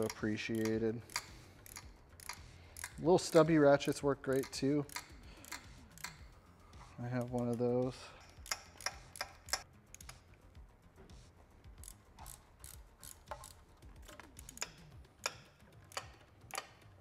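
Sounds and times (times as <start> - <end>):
socket ratchet clicking: 0.0 - 10.4, 11.7 - 17.0.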